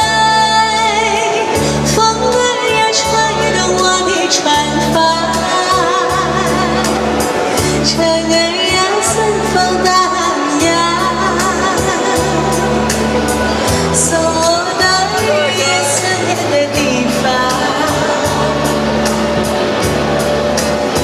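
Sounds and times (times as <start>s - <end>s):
held bass notes accompaniment: 0.0s - 21.0s
woman singing with vibrato: 0.0s - 21.0s.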